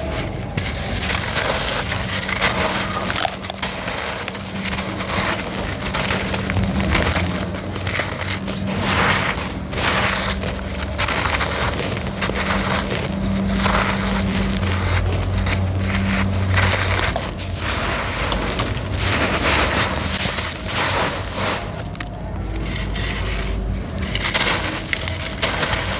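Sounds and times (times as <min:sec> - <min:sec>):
cement crunching and crumbling: 0:00.0 - 0:25.9.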